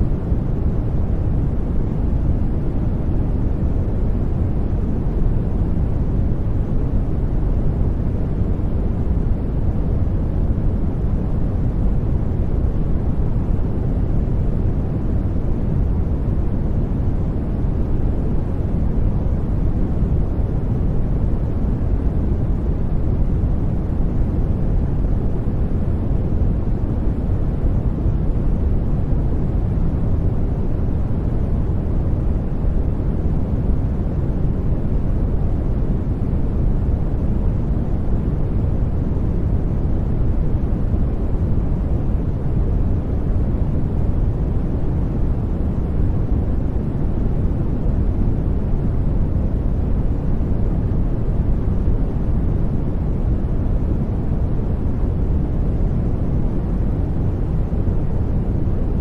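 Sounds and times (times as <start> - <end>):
deep white noise hiss: 0.0 - 59.0.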